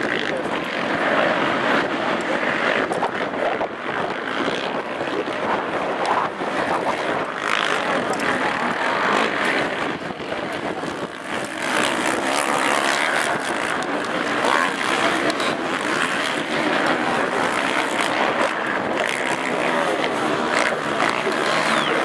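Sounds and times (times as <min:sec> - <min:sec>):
quad engines revving: 0:04.1 - 0:22.0.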